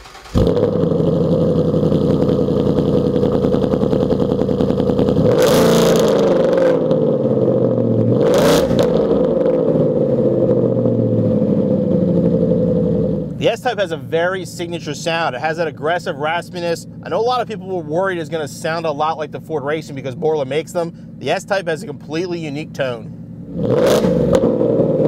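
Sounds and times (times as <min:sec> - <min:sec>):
car engine idling raspy: 0:00.0 - 0:25.0
car engine revving: 0:00.0 - 0:25.0.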